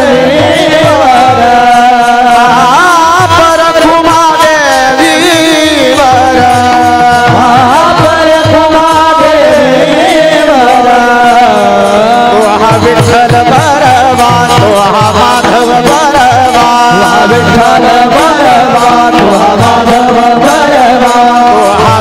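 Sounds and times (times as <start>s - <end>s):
hand cymbals jingling: 0.0s - 22.0s
man singing: 0.0s - 22.0s.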